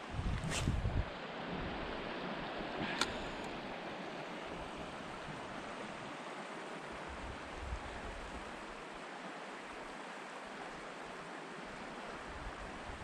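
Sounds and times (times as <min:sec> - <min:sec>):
river flowing: 0:01.0 - 0:13.0.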